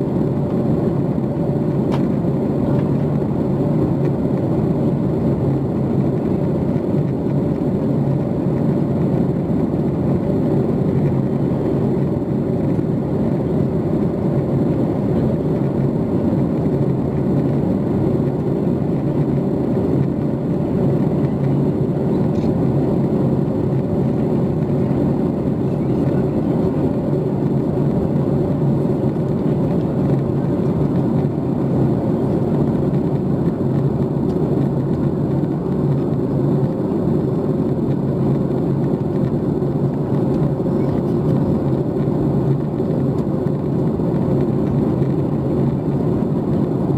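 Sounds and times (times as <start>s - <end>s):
airplane cabin jet noise: 0.0s - 46.9s.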